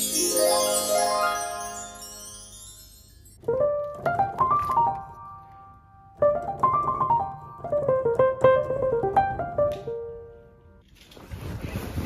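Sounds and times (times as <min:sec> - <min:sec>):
piano music: 0:00.0 - 0:10.8.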